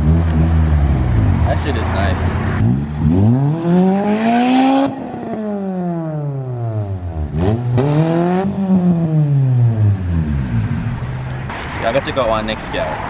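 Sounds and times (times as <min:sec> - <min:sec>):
race car engine revving: 0:00.0 - 0:11.9.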